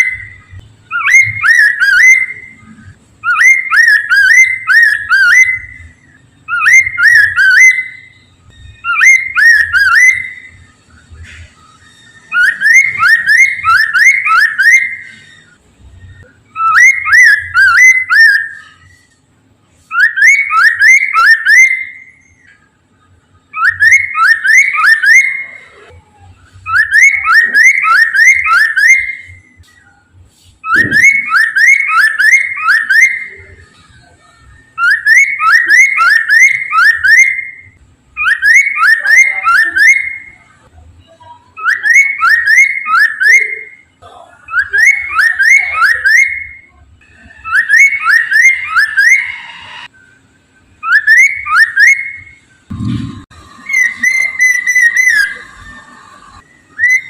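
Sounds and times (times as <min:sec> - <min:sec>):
bird singing whistled phrases: 0:00.0 - 0:19.1, 0:19.8 - 0:22.6, 0:23.5 - 0:25.9, 0:26.6 - 0:30.0, 0:30.6 - 0:40.6, 0:41.5 - 0:43.9, 0:44.5 - 0:50.2, 0:50.8 - 0:52.4, 0:53.6 - 0:55.8, 0:56.4 - 0:57.0.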